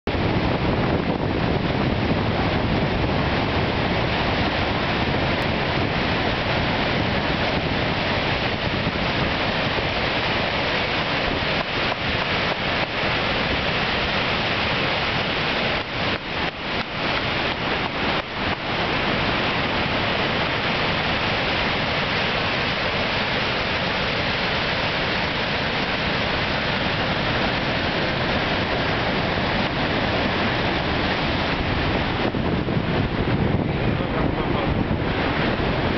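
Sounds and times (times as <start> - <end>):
waterfall roaring: 0.1 - 35.9.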